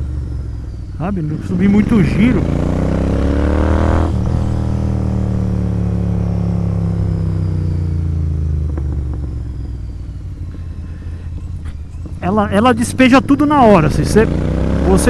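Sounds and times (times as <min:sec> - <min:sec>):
motorcycle engine revs falling: 0:00.0 - 0:15.0.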